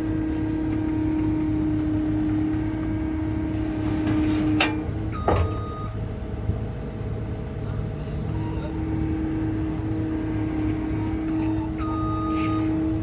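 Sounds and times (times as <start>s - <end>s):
diesel engine running: 0.0s - 13.0s
engine whine: 0.0s - 13.0s.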